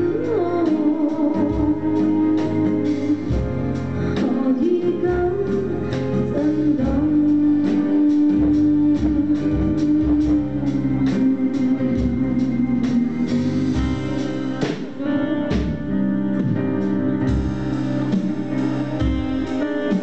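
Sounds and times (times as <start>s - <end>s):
keyboard chords: 0.0s - 20.0s
steady drum beat: 0.0s - 20.0s.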